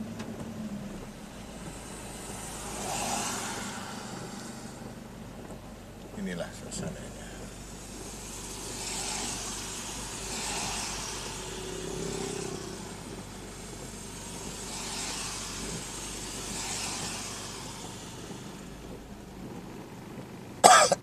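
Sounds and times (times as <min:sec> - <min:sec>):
idling engine hum: 0:00.0 - 0:21.0
steady rain: 0:00.0 - 0:21.0
windscreen wipers swishing: 0:00.0 - 0:21.0.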